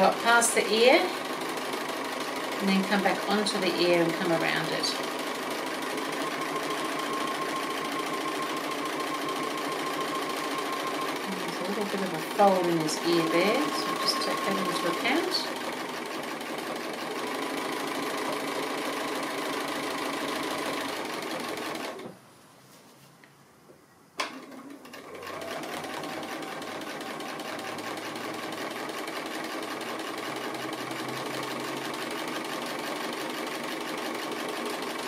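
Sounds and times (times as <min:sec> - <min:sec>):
sewing machine stitching: 0:00.0 - 0:22.1, 0:24.3 - 0:35.0.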